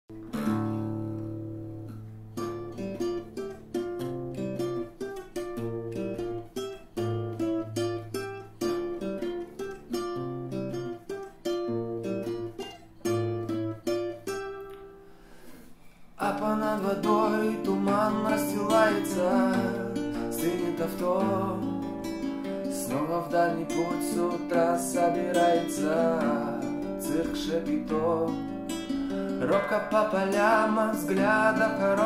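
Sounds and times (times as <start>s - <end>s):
acoustic guitar playing: 0.1s - 32.0s.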